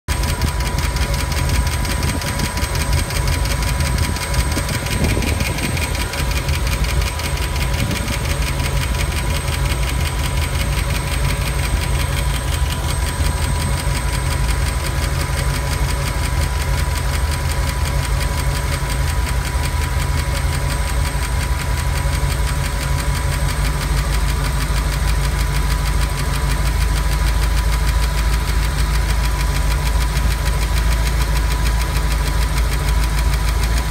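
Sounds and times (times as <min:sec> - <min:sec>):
car engine running: 0:00.0 - 0:33.9
engine ticking knock: 0:00.1 - 0:33.9.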